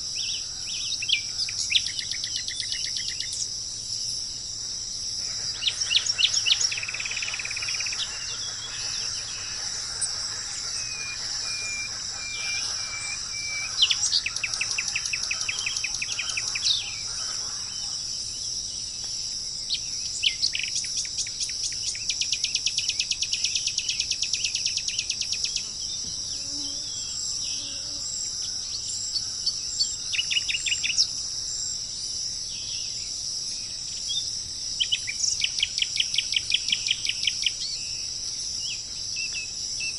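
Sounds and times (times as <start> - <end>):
birds singing trills: 0.0 - 39.9
crickets chirping: 0.0 - 39.9.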